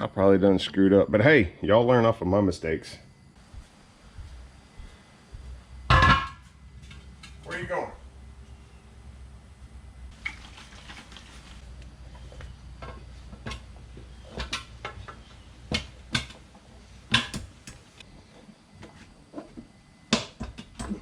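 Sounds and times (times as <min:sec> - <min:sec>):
low steady hum: 0:02.7 - 0:21.0.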